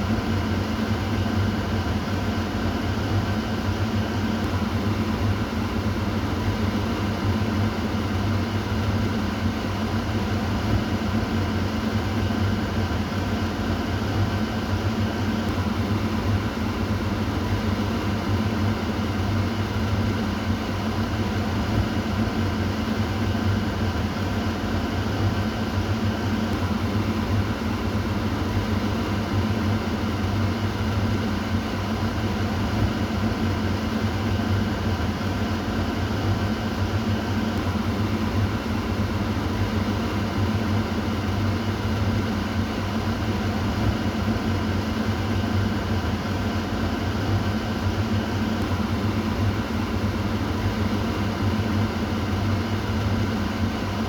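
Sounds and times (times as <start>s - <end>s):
exhaust fan running: 0.0s - 54.0s.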